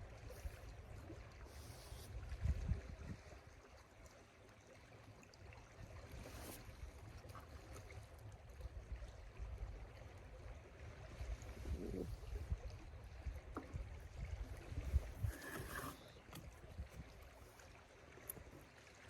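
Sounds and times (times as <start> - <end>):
faint flowing river: 0.0 - 19.0.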